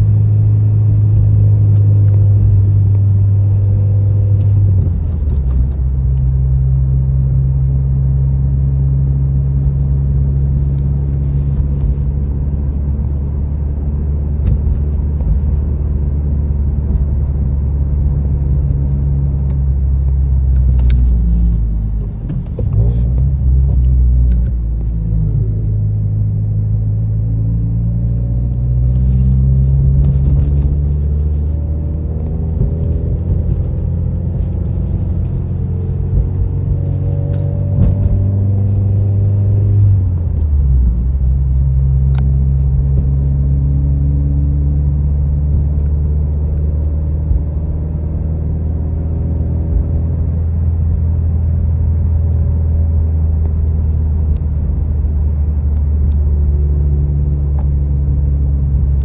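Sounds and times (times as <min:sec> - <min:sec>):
car engine cruising: 0:00.0 - 0:59.0.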